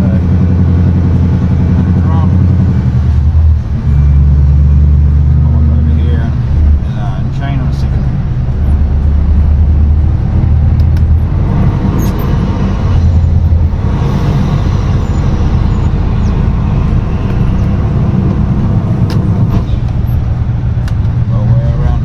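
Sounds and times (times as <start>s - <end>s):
truck diesel engine driving: 0.0s - 22.0s.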